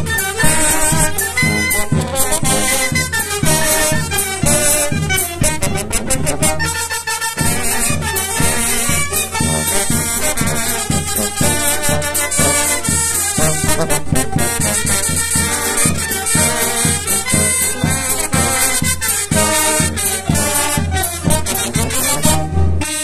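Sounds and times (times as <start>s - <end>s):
sousaphone bass line: 0.0s - 6.8s, 7.4s - 22.9s
brass band playing: 0.0s - 23.0s
drums and cymbal beat: 0.0s - 23.0s
trumpet and horn melody: 0.0s - 23.0s.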